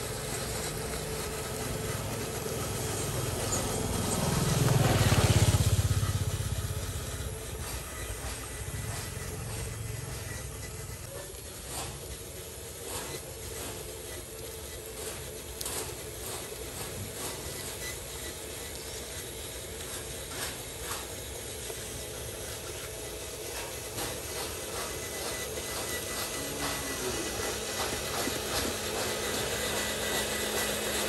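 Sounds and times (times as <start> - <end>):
toy truck gears whirring: 0.0 - 31.0.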